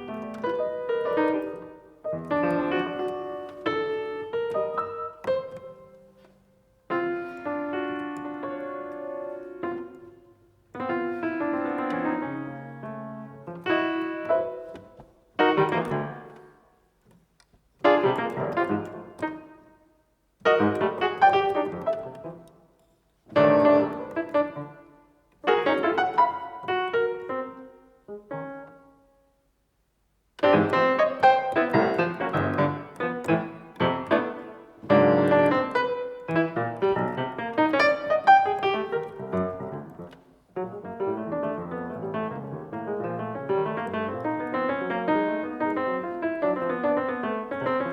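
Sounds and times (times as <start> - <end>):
solo piano: 0.0 - 47.9.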